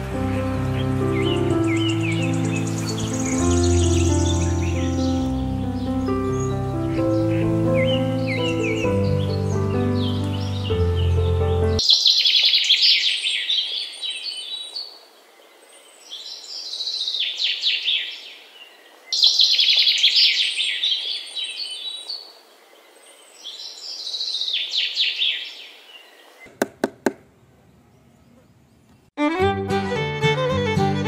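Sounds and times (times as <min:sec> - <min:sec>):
songbirds chirping and trilling: 0:00.0 - 0:26.6, 0:27.2 - 0:29.2.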